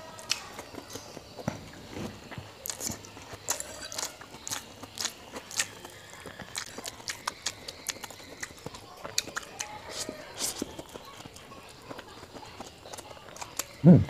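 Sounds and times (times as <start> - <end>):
person chewing: 0.0 - 1.4, 2.2 - 14.0.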